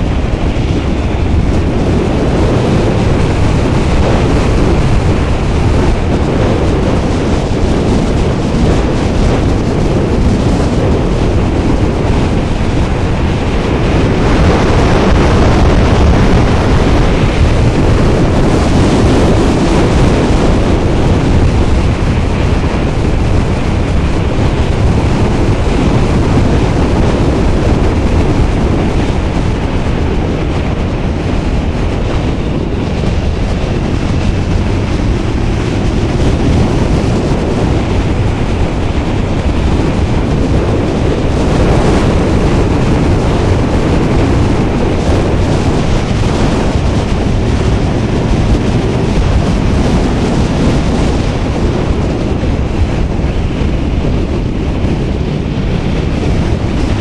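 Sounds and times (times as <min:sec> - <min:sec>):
motorcycle engine and tyre noise: 0:00.0 - 0:57.0
wind rushing over microphone: 0:00.0 - 0:57.0.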